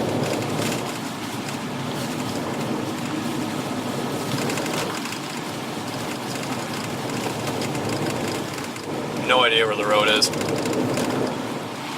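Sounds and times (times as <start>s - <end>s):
car road and engine noise: 0.0s - 11.9s.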